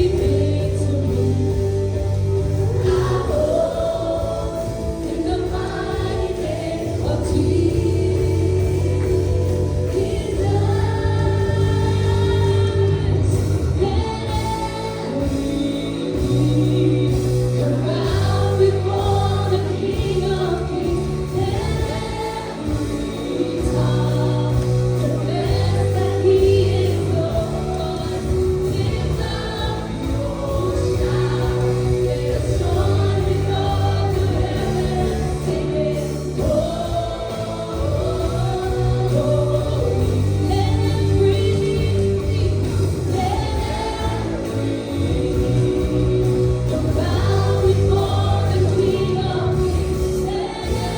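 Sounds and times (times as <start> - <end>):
band playing gospel music: 0.0 - 50.9
group of voices singing: 0.0 - 50.9
held bass notes: 0.0 - 50.9.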